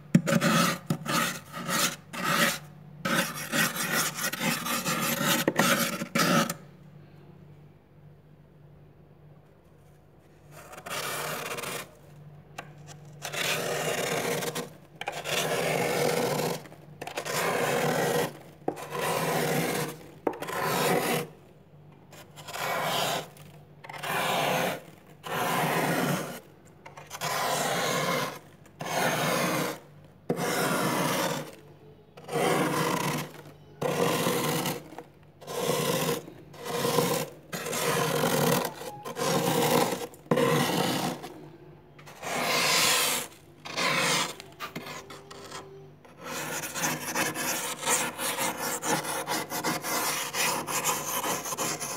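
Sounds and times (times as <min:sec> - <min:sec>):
metal spoon scraping frost: 0:00.2 - 0:06.6, 0:10.5 - 0:21.4, 0:22.1 - 0:51.9.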